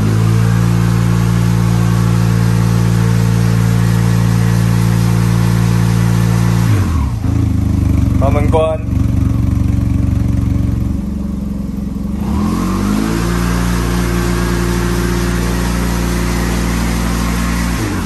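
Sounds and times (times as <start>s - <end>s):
scooter engine idling and revving: 0.0s - 18.0s.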